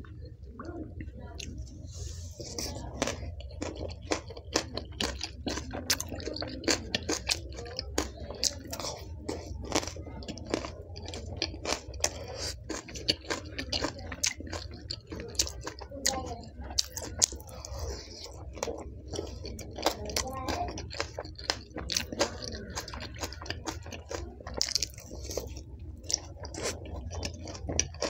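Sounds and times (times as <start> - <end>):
crunching and wet chewing: 0.0 - 28.0.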